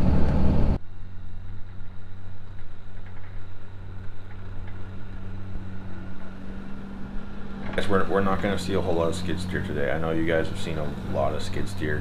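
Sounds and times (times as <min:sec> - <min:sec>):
steady engine hum: 0:00.0 - 0:12.0
truck driving: 0:00.0 - 0:12.0.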